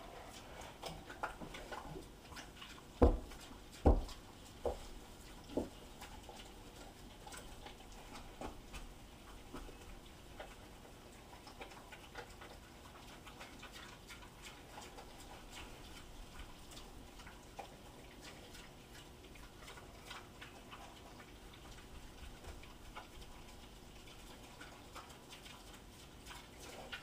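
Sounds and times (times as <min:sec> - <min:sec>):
pig chewing and smacking: 0:00.0 - 0:27.0.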